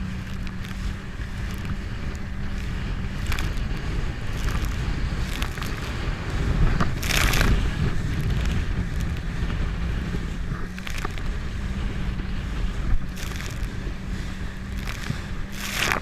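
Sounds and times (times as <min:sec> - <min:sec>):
jet ski engine rumbling: 0:00.0 - 0:16.0
wind noise on microphone: 0:00.0 - 0:16.0.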